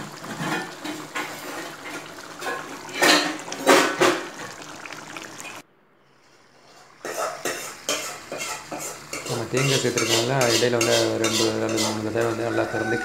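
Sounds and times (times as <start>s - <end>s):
thick gravy bubbling: 0.0s - 5.6s, 6.2s - 13.0s.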